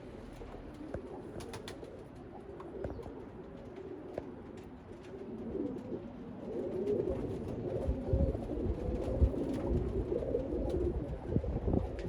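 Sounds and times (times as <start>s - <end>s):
pigeons cooing: 0.4s - 11.9s.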